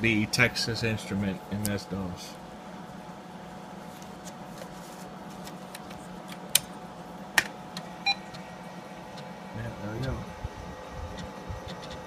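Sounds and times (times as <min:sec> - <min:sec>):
computer humming: 0:00.0 - 0:12.0.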